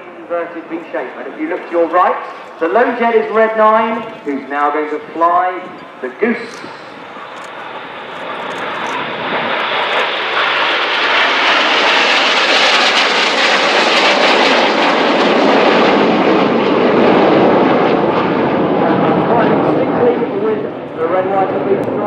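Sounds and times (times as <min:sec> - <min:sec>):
jet engines roaring past: 0:00.0 - 0:22.0.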